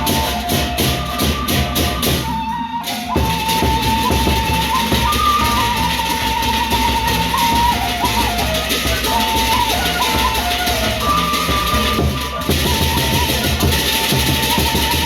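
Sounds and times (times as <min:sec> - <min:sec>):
cymbals: 0:00.0 - 0:15.0
drum ensemble playing: 0:00.0 - 0:15.0
held melody line: 0:00.0 - 0:15.0
large drums beating fast: 0:00.0 - 0:15.0.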